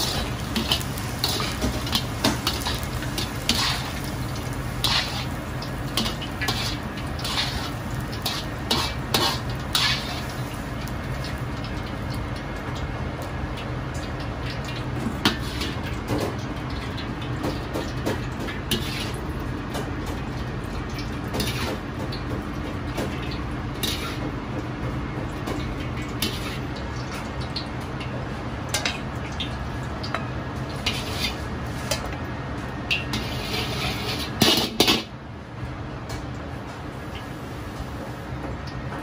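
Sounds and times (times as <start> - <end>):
low kitchen rumble: 0.0 - 39.0.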